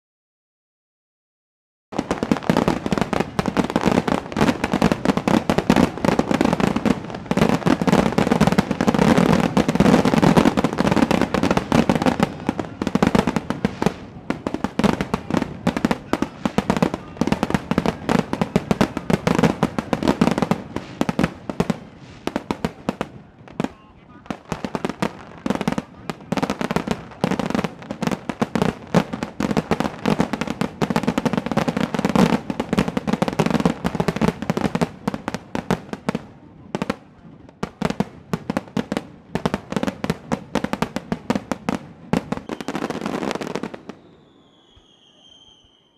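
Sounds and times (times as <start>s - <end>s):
fireworks bursts and crackles: 1.9s - 45.9s.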